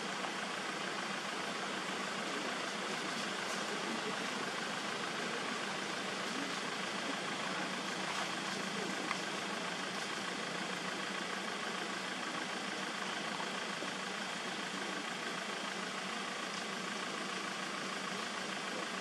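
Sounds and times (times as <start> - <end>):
droning hum with hiss: 0.0 - 19.0.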